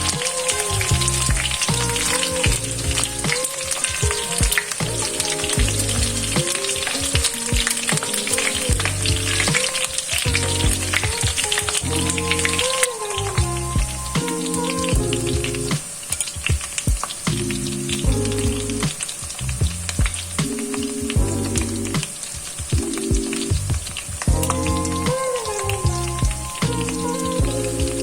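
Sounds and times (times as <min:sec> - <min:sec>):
background music: 0:00.0 - 0:28.0.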